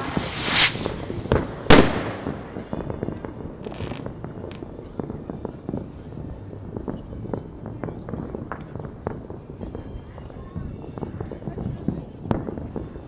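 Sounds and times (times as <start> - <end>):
fireworks bangs: 0.0 - 13.0
fireworks pops and crackles: 0.0 - 13.0.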